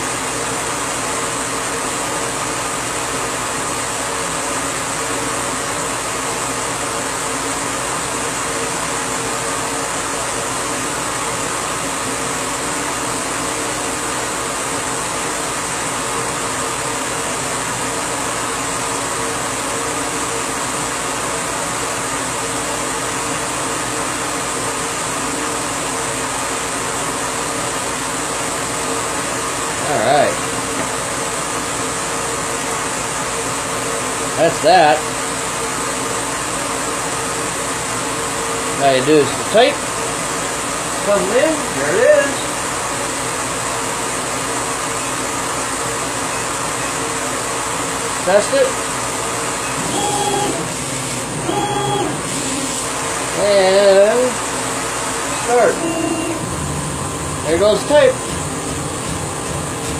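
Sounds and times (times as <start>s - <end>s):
laser engraving machine whirring: 0.0s - 59.9s.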